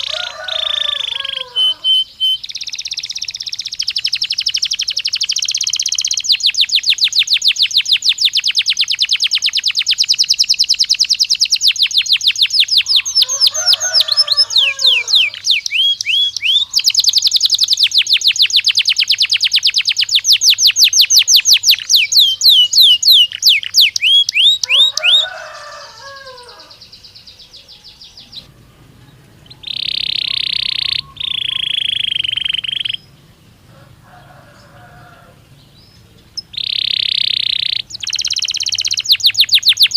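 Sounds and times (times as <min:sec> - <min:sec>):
canary singing trills: 0:00.0 - 0:39.9
low chattering bird notes: 0:00.0 - 0:39.9.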